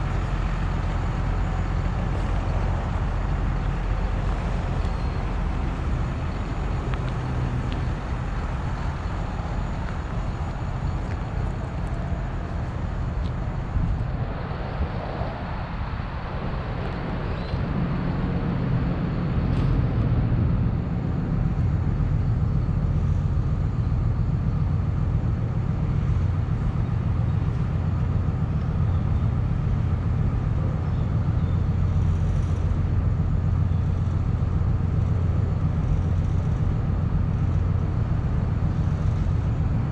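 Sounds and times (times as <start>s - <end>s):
diesel engine idling: 0.0s - 14.6s, 17.8s - 39.9s.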